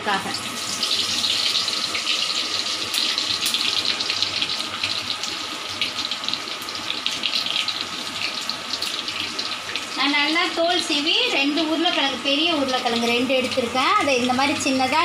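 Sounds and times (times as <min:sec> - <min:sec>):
oil sizzling in a wok: 0:00.0 - 0:15.0.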